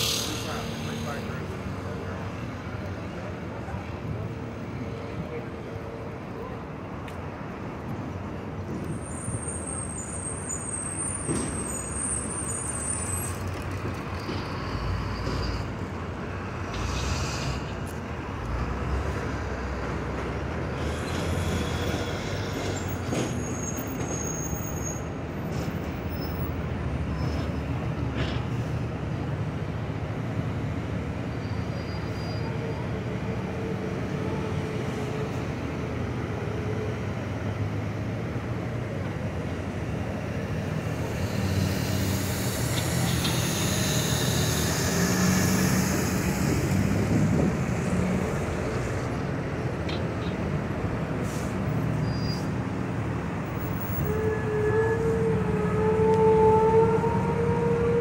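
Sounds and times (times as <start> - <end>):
buses and cars passing: 0.0 - 58.0.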